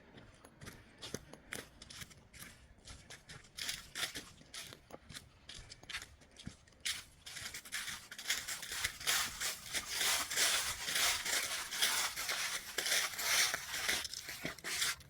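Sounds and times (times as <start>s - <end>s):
footsteps crunching on trail: 0.1s - 15.0s.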